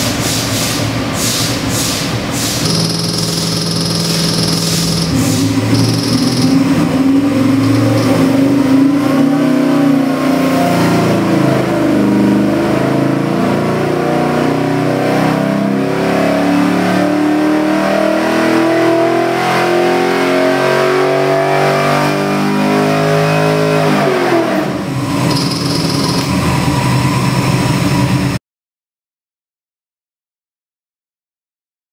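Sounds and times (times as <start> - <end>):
engine revving at full throttle: 2.6 - 28.3.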